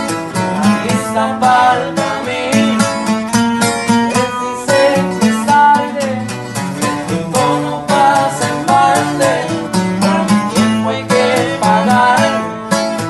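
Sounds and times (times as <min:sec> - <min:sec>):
bass line: 0:00.0 - 0:13.0
picked guitar notes: 0:00.0 - 0:13.0.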